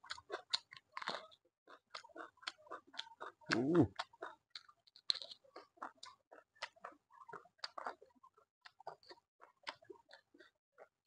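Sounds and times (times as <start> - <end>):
person chewing close to microphone: 0.0 - 11.0.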